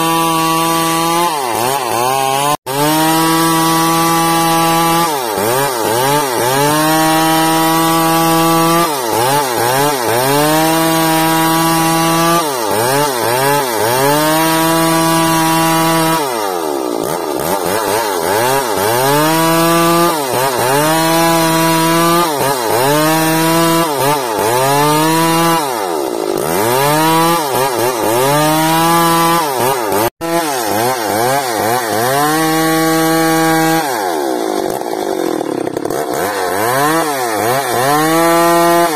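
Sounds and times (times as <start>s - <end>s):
chainsaw ripping wood: 0.0s - 38.9s.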